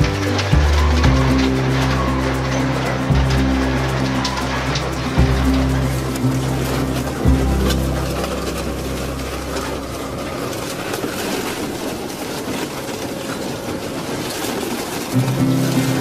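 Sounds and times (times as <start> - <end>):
shredder crunching metal: 0.0 - 16.0.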